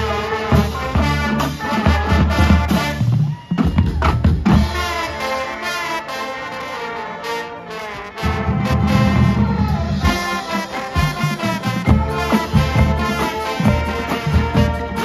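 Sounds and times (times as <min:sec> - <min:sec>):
drums: 0:00.0 - 0:05.8, 0:07.9 - 0:15.0
brass horns: 0:00.0 - 0:15.0
marching band playing: 0:00.0 - 0:15.0.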